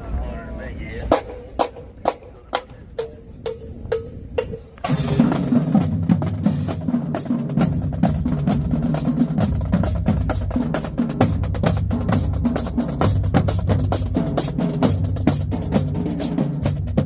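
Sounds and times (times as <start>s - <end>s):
pounding bass drums: 1.1s - 17.0s.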